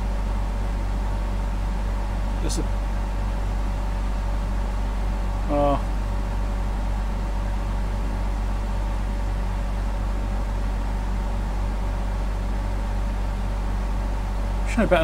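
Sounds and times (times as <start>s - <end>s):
low hum: 0.0s - 14.6s.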